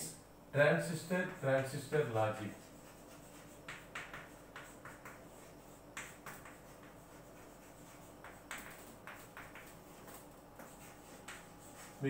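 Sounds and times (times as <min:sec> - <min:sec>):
chalk writing on a chalkboard: 0:01.2 - 0:12.0.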